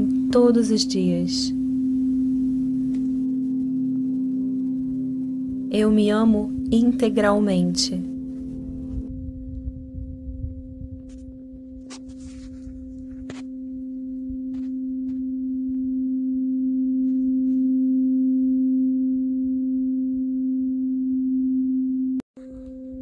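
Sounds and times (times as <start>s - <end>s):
tuning fork ringing: 0.0s - 23.0s.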